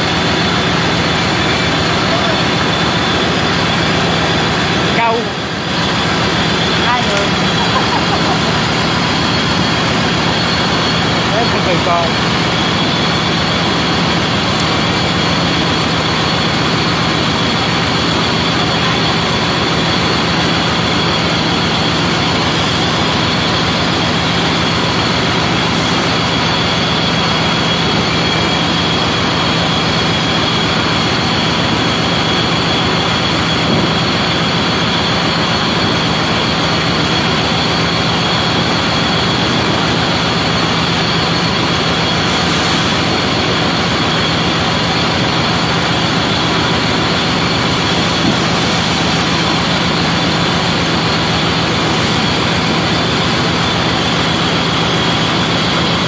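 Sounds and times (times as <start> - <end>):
metal lathe running: 0.0 - 56.0.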